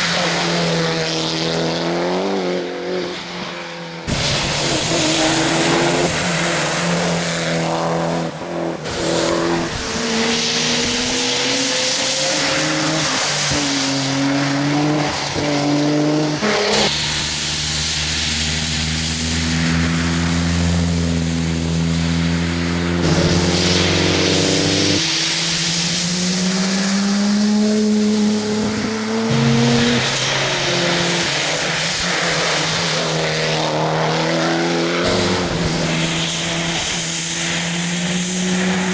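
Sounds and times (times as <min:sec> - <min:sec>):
rally car engines revving: 0:00.0 - 0:38.9
tyres hissing on wet road: 0:00.0 - 0:38.9.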